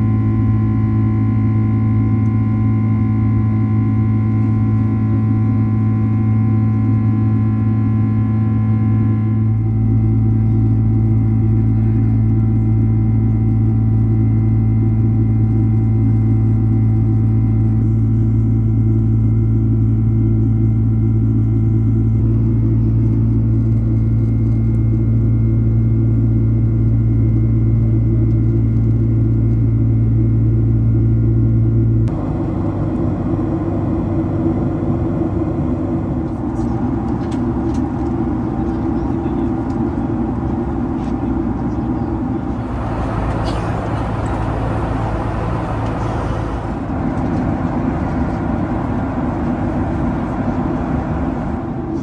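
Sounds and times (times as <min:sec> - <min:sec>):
jet engine drone in cabin: 0:00.0 - 0:52.0.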